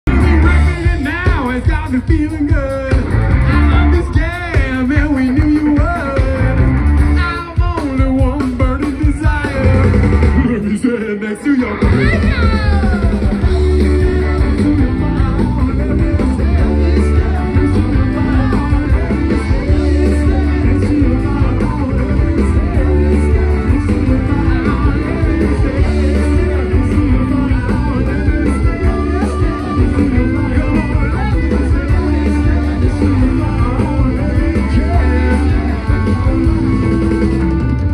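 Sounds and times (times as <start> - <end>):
live rock band playing: 0.0 - 37.9
person singing: 0.1 - 37.6.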